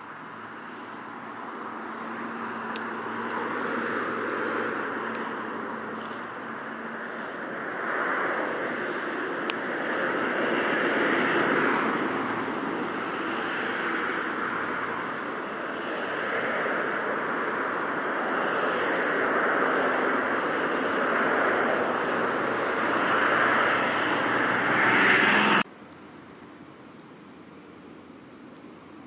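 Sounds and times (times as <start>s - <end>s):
outdoor rushing noise: 0.0s - 25.7s.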